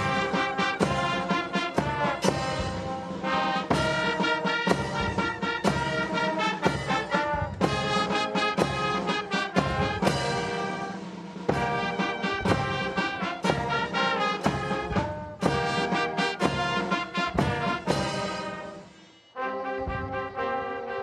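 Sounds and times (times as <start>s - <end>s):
sharp steady beat: 0.0s - 19.0s
brass band chords: 0.0s - 21.0s.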